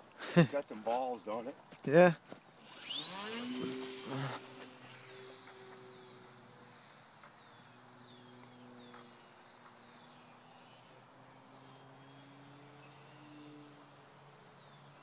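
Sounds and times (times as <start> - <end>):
small electric motor whining: 2.5 - 15.0.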